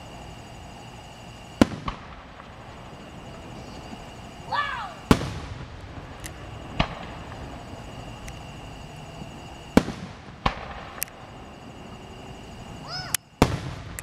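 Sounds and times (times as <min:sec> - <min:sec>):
firework bangs: 0:00.0 - 0:14.0
firework cracks: 0:00.0 - 0:14.0.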